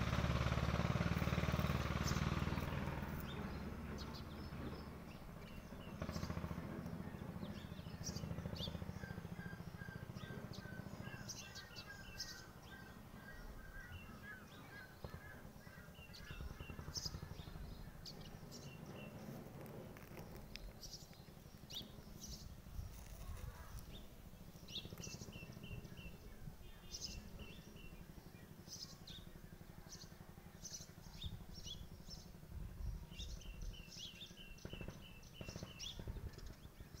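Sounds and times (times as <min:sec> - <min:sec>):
low steady rumble: 0:00.0 - 0:37.0
small birds chirping: 0:00.0 - 0:37.0.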